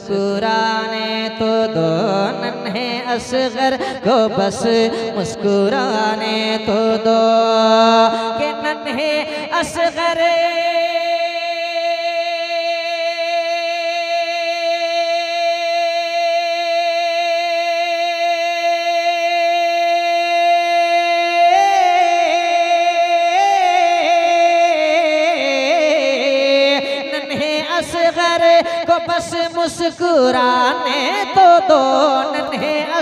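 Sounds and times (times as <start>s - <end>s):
man singing unaccompanied: 0.0s - 33.0s.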